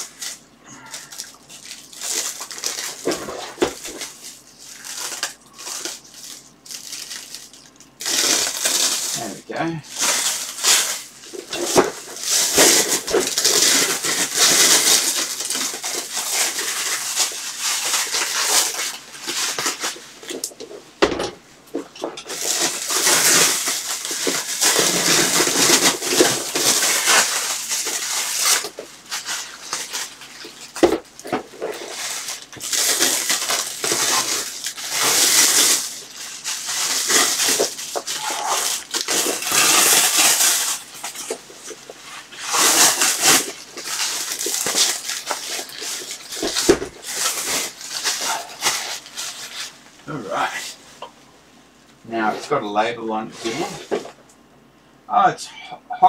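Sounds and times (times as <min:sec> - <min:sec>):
plastic wrapping crinkling: 0:00.0 - 0:51.1.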